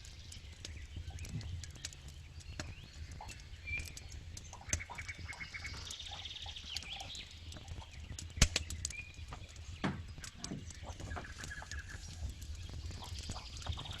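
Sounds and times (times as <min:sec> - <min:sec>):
low rumble of flames: 0:00.0 - 0:14.0
wood crackling and popping: 0:00.0 - 0:14.0
faint high chirps and squeaks: 0:00.4 - 0:14.0.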